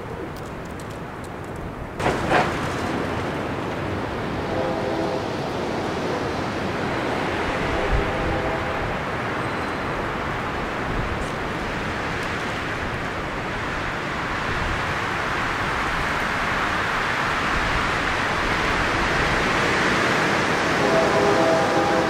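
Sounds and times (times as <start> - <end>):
creek water rushing: 2.0 - 22.0.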